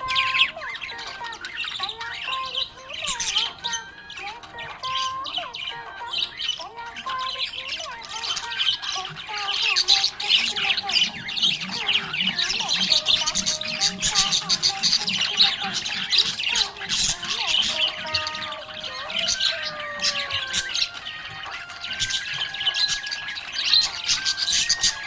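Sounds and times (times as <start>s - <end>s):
budgerigar chirping and chattering: 0.0s - 25.0s.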